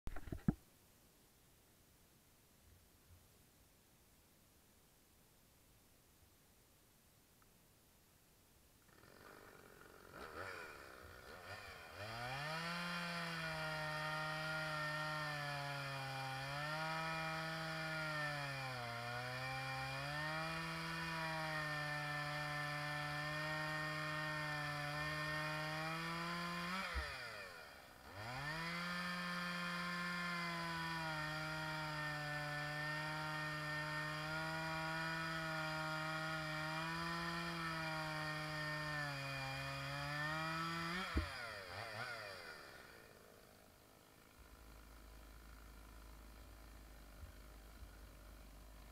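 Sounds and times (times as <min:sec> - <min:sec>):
chainsaw cutting log: 0:08.8 - 0:48.9.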